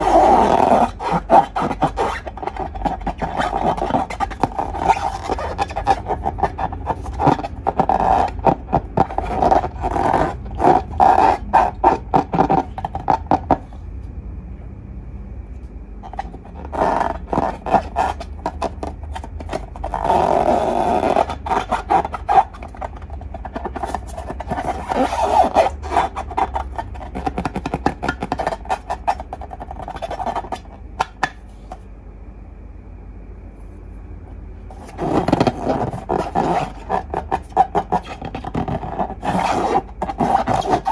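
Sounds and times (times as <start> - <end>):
slime crackling and squeaking: 0.0 - 13.8, 16.0 - 31.4, 34.7 - 40.9.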